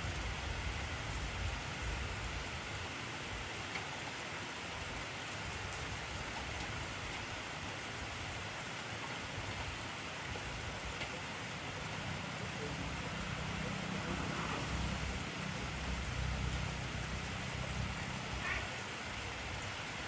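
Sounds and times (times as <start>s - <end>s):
heavy rain on a surface: 0.0s - 20.0s.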